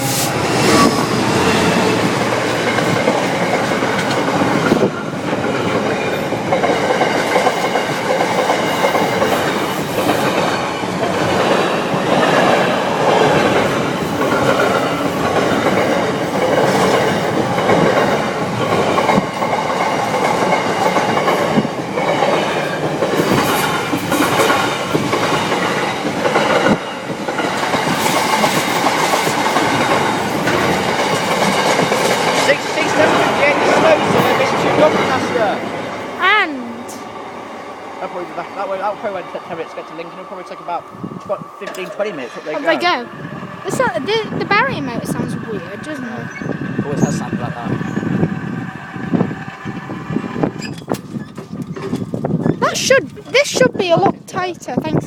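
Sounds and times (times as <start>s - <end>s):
freight train wheels clattering: 0.0s - 36.1s, 43.1s - 55.0s.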